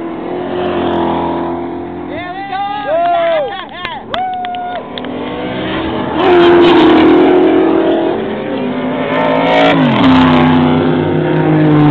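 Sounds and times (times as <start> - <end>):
race cars passing at speed: 0.0 - 11.9.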